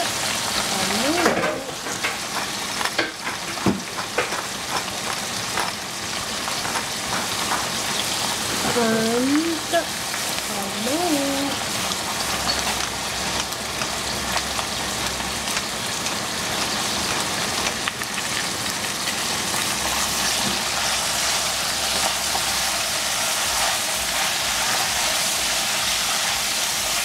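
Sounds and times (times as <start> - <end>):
vegetables sizzling in a pan: 0.0 - 27.0.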